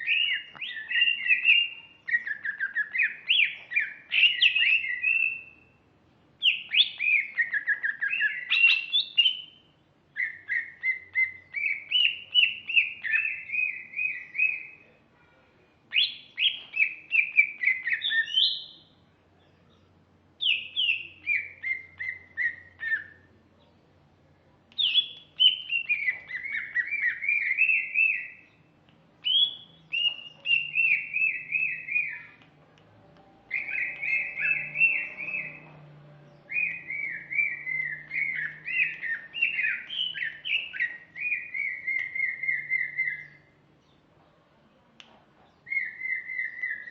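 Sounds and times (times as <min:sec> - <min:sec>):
bird singing warbling chirps: 0:00.0 - 0:05.8, 0:06.4 - 0:15.0, 0:15.8 - 0:32.4, 0:33.0 - 0:44.1, 0:45.4 - 0:46.9.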